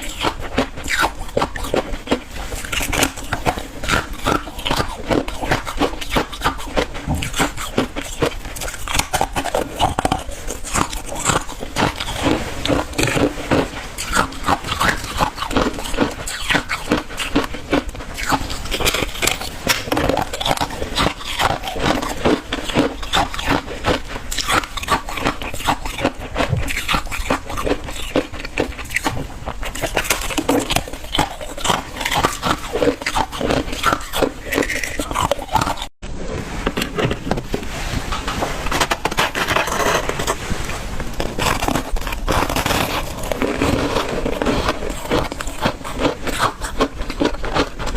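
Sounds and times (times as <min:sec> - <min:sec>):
person chewing hard ice: 0:00.0 - 0:37.6, 0:38.2 - 0:47.9.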